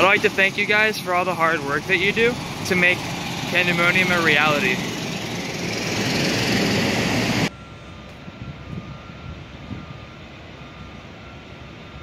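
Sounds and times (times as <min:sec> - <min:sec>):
construction site background: 0:00.0 - 0:12.0
heavy truck passing: 0:00.0 - 0:12.0
reversing alarm beeping: 0:00.0 - 0:12.0.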